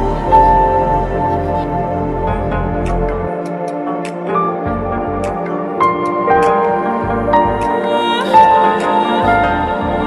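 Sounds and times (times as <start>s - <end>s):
melodic background music with bass: 0.0s - 10.0s.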